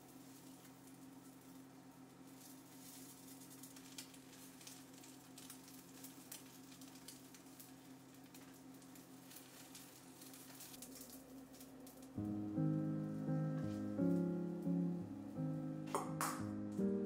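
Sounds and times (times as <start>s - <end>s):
oil sizzling and crackling in pan: 0.0s - 17.0s.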